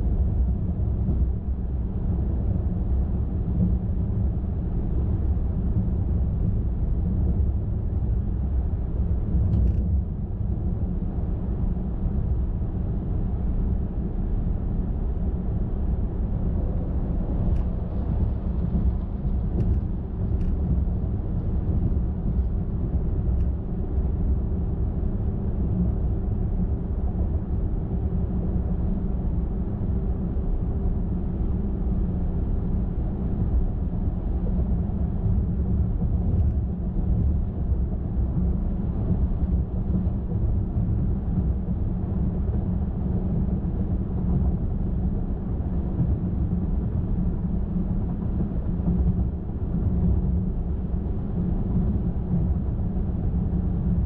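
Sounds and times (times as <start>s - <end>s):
car driving on highway: 0.0s - 54.0s.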